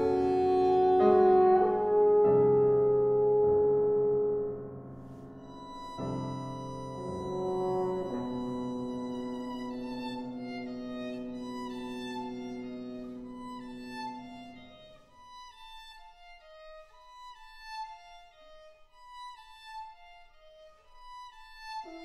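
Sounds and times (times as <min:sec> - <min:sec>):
horn violin and piano chamber music: 0:00.0 - 0:22.0.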